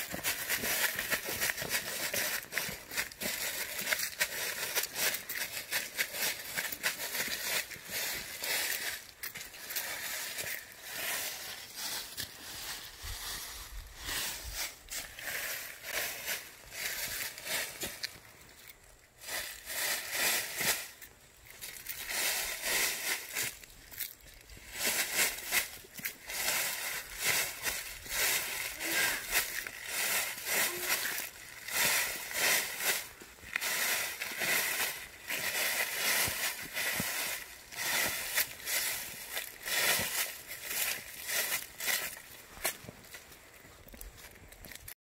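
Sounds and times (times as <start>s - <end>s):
dry leaves crunching under footsteps: 0.0s - 45.0s.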